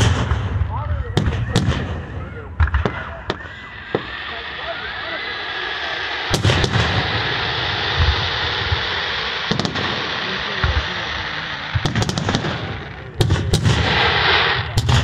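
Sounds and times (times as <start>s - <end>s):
firework shells booming: 0.0s - 15.0s
fireworks hiss and crackle: 0.0s - 15.0s.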